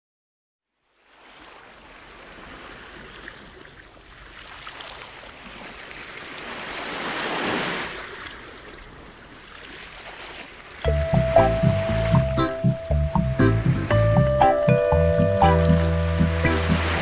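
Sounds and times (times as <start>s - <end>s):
waves washing in: 1.0s - 17.0s.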